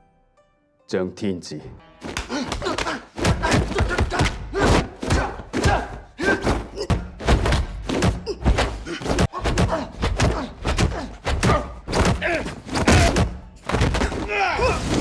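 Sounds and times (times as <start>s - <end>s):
punches and kicks landing: 2.0s - 15.0s.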